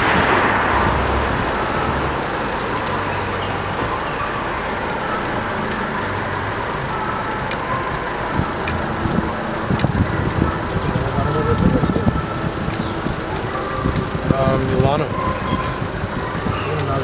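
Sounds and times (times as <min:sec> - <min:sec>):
tyres on asphalt: 0:00.0 - 0:17.0
vehicle engine hum: 0:00.0 - 0:17.0.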